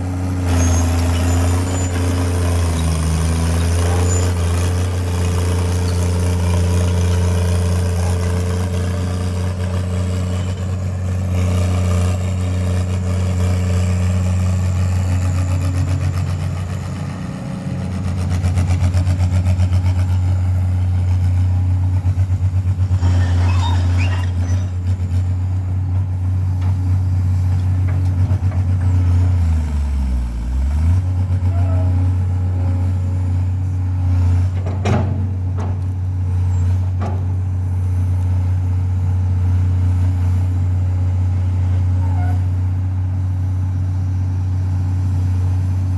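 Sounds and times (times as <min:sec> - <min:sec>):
excavator diesel engine humming: 0:00.0 - 0:45.9.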